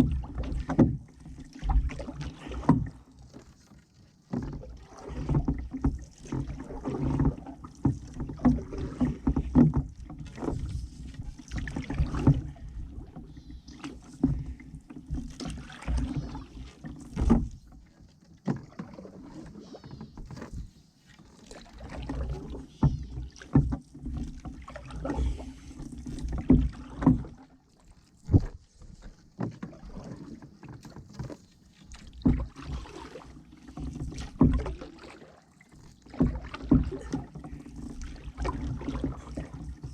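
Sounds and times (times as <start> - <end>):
paddle knocking canoe hull: 0.0 - 39.9
paddle splashing water: 0.0 - 39.9.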